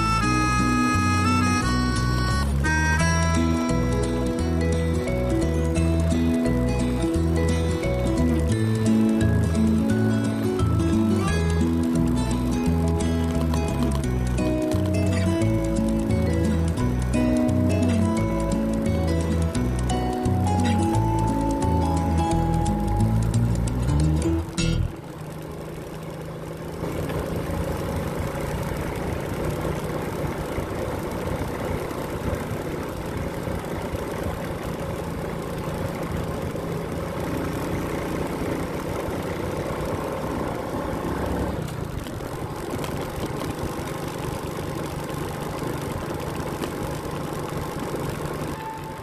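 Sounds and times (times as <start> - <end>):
motorcycle engine running: 0.0 - 49.0
road and wind noise: 0.0 - 49.0.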